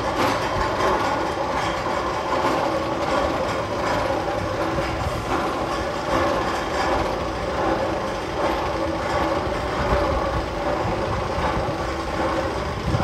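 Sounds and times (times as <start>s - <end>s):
roller coaster chain lift rattle: 0.0s - 13.0s.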